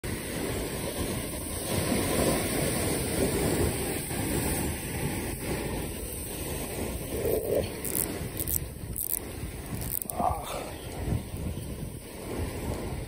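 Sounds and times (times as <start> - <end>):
sea water rushing and splashing: 0.0 - 13.0
wind buffeting microphone: 0.0 - 13.0.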